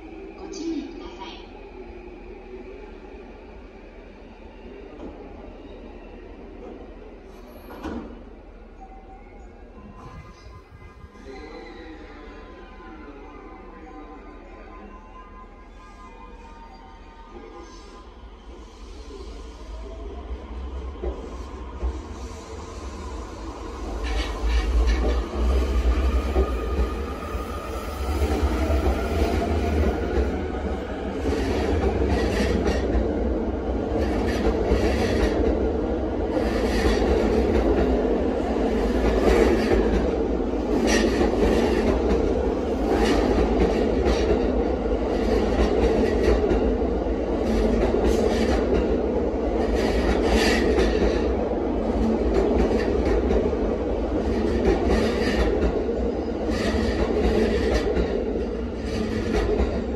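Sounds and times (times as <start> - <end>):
train rumbling past: 0.0 - 14.0, 15.5 - 59.9.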